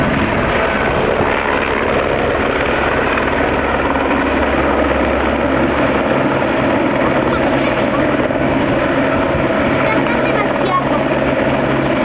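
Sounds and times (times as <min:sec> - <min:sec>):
helicopter hovering: 0:00.0 - 0:12.0.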